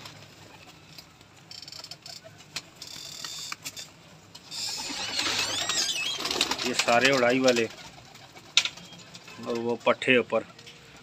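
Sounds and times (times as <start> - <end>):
wing flutters: 0.0 - 11.0.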